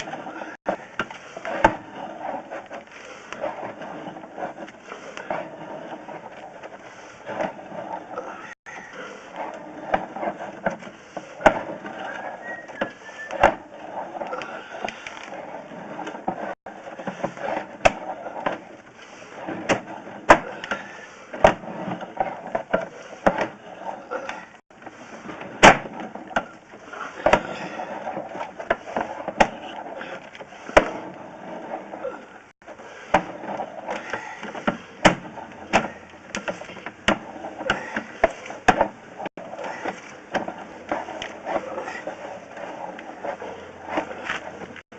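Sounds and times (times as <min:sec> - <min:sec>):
rough scraping noise: 0:00.0 - 0:44.9.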